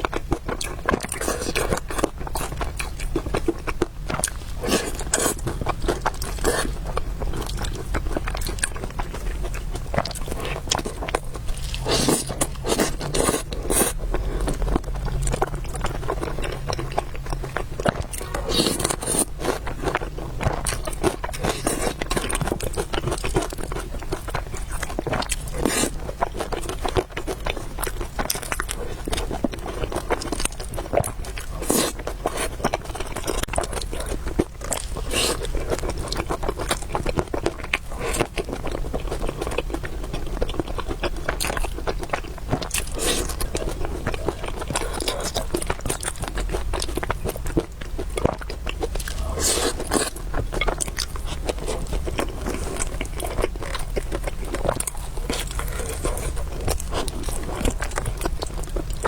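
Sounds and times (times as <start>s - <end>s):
food crunching: 0.0s - 59.0s
person chewing food: 0.0s - 59.0s.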